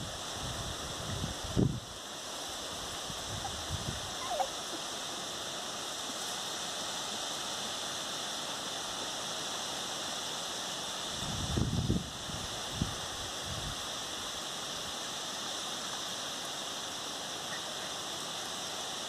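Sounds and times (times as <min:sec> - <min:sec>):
outdoor noise hiss: 0:00.0 - 0:19.0.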